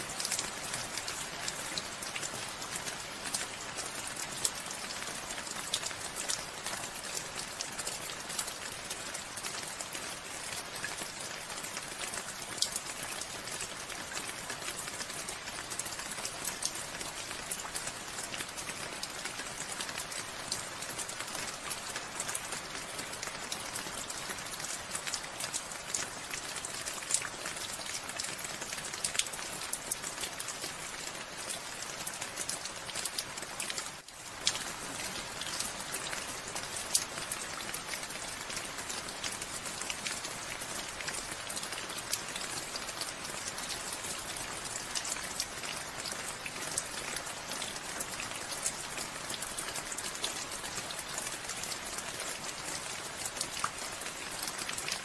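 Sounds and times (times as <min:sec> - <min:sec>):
raindrops ticking on surfaces: 0:00.0 - 0:55.0.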